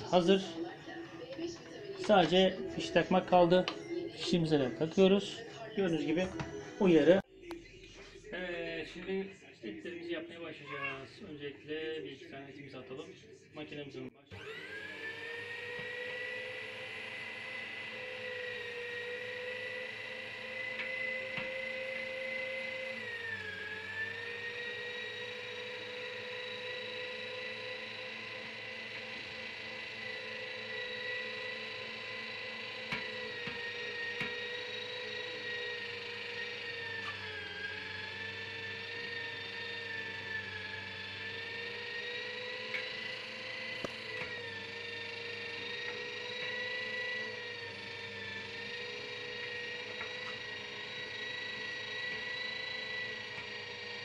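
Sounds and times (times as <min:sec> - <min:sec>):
electric meat grinder whining: 0:00.0 - 0:07.3, 0:14.2 - 0:54.0.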